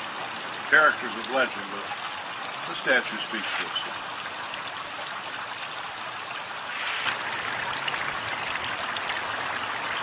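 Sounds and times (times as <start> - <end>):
fountain water splashing into pool: 0.0 - 10.0.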